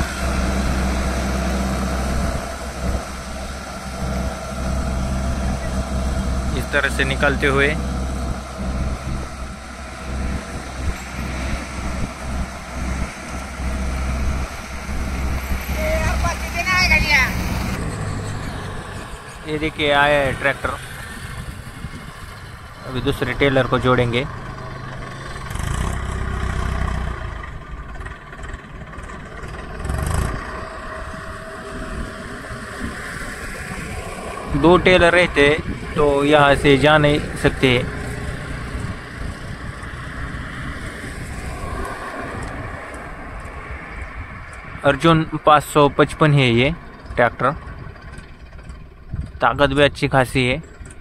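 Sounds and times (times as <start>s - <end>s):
motor scooter approaching: 0.0s - 51.0s
tractor diesel engine rumbling: 0.0s - 51.0s.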